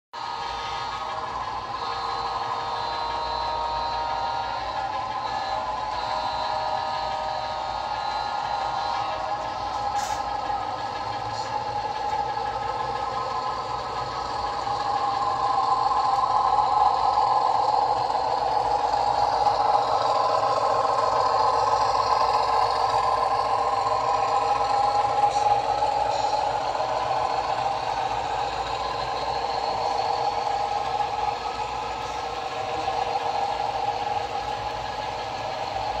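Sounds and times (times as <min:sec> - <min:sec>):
model locomotive engine sound: 0:00.2 - 0:36.0
model train cars rolling on track: 0:00.2 - 0:36.0.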